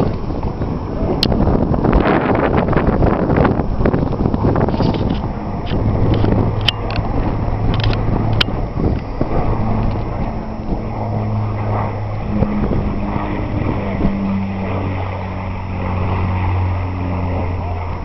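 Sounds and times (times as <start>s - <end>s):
propeller plane engines droning: 0.0s - 18.0s.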